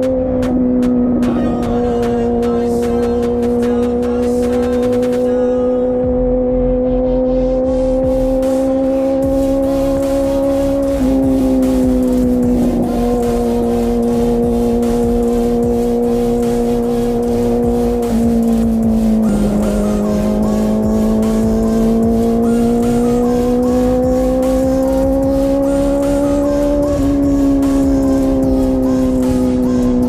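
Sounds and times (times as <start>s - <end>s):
motorcycle exhaust note: 0.0s - 30.0s.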